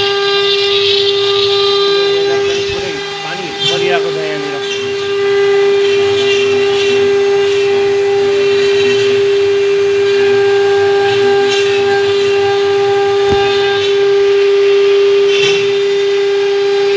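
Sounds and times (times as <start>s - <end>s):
bit cutting wood: 0.0s - 16.9s
router spindle whine: 0.0s - 16.9s.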